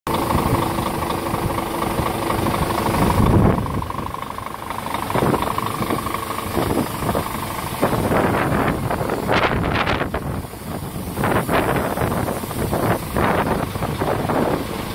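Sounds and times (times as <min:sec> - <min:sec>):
diesel truck engine idling: 0:00.1 - 0:14.9.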